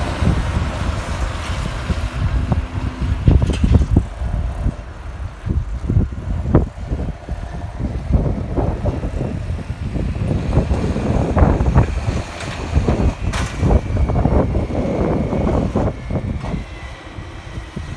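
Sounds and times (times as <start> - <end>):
tractor diesel engine: 0.0 - 17.9
wind buffeting microphone: 0.0 - 17.9.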